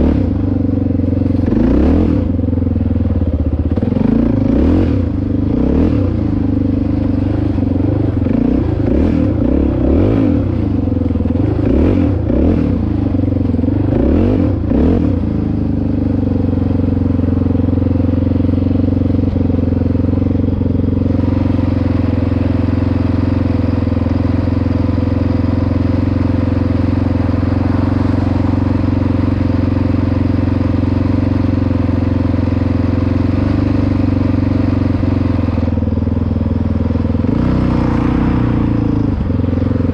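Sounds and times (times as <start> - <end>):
dirt bike engine revving: 1.2 - 2.6, 3.7 - 35.8, 37.2 - 39.9.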